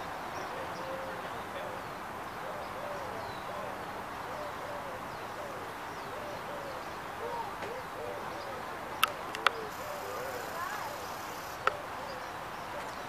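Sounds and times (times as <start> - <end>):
birds hooting: 0.0 - 13.0
steady outdoor hiss: 0.0 - 13.0.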